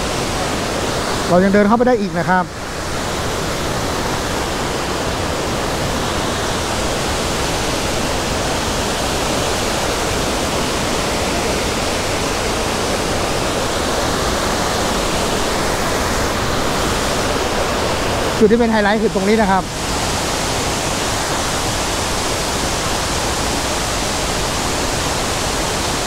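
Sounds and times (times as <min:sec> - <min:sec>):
stream pouring over boulders: 0:00.0 - 0:26.0
waterfall rushing: 0:00.0 - 0:26.0.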